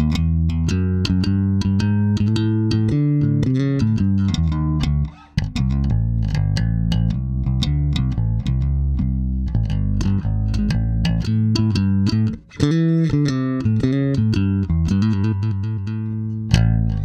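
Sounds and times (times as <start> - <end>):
plucked bass guitar notes: 0.0 - 17.0.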